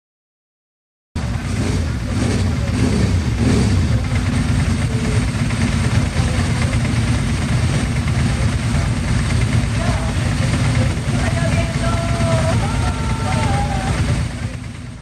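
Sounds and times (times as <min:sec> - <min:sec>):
people's voices: 0:01.2 - 0:15.0
vehicle engines running: 0:01.2 - 0:15.0.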